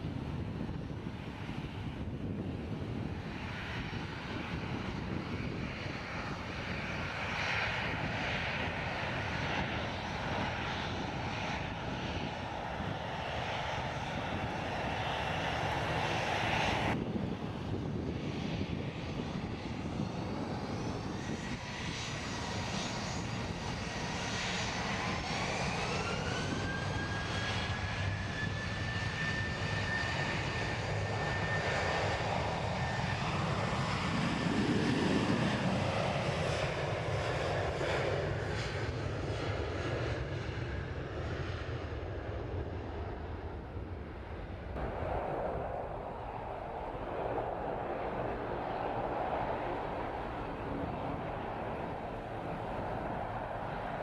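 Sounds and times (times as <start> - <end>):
jet engines rumbling: 0.0 - 54.0
jet engine whine rising: 0.2 - 54.0.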